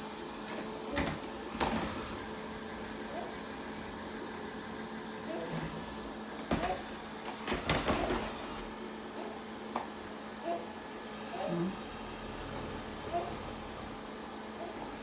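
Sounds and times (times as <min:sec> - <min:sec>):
robot vacuum humming: 0:00.0 - 0:15.0.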